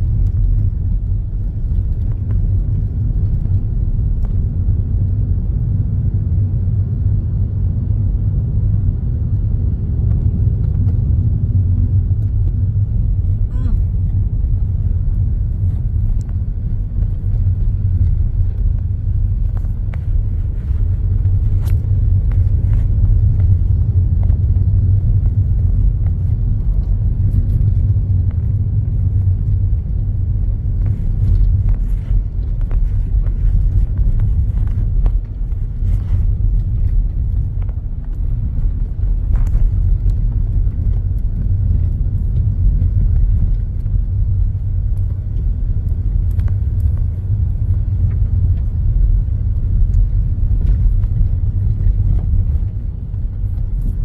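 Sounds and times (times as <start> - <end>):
tyres and engine rumbling: 0.0 - 54.0.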